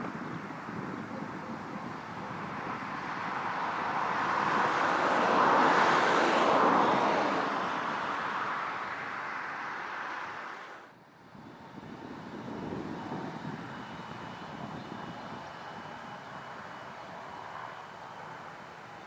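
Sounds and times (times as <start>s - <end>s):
jet engines roaring past: 0.0s - 19.0s.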